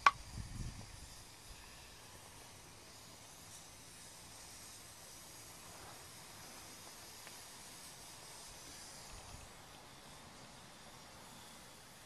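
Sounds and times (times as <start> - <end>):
faint hiss of alcohol stove: 0.0 - 12.0.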